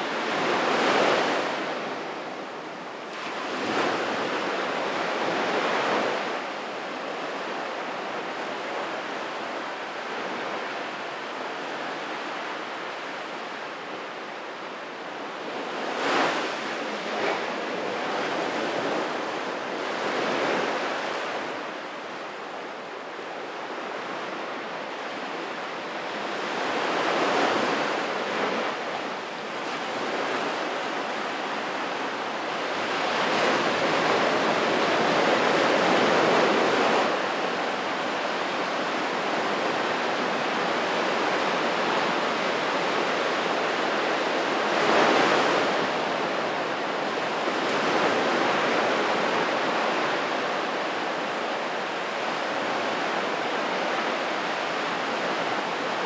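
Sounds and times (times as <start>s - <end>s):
waves breaking on sandy beach: 0.0s - 56.0s.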